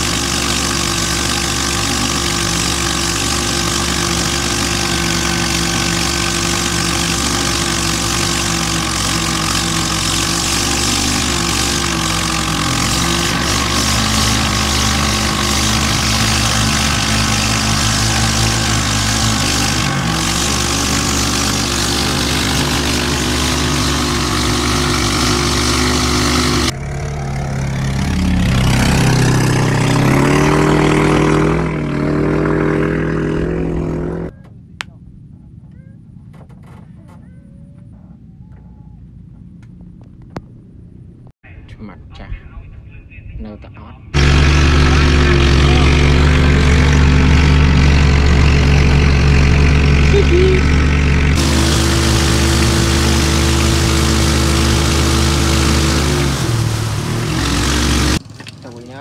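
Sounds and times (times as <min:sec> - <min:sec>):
motorboat engine speeding up: 0:00.0 - 0:34.3, 0:44.2 - 0:59.0
boat engine running: 0:00.0 - 0:40.2, 0:44.2 - 0:59.0.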